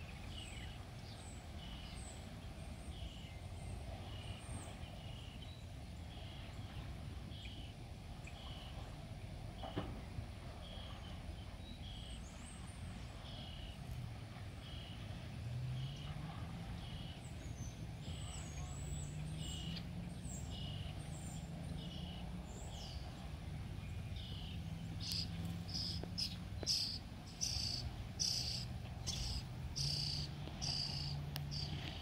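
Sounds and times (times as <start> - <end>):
low steady hum: 0.0 - 32.0
songbirds chirping: 0.0 - 32.0.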